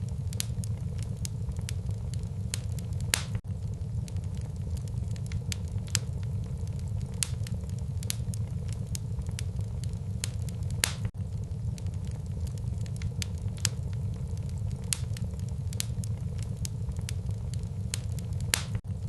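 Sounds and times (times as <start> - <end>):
fire crackling and popping: 0.0 - 19.0
flames rumbling: 0.0 - 19.0.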